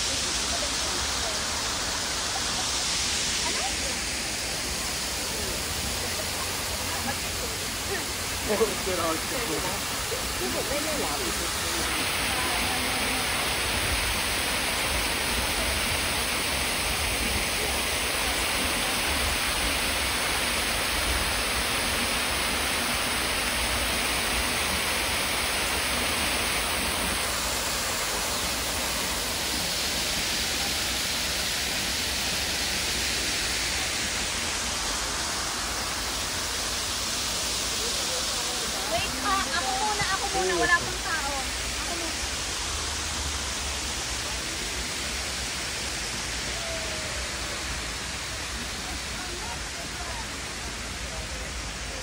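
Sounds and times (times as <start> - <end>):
hissing spray of water jets: 0.0 - 52.0
waterfall rushing into a pond: 0.0 - 52.0.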